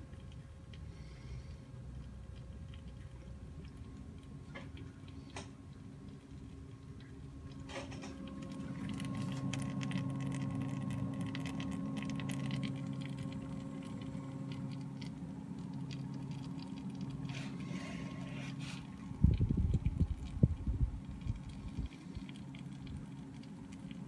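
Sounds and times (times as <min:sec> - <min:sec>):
computer pump and fans humming: 0:00.0 - 0:24.0
fine crackling and ticking: 0:00.0 - 0:24.0.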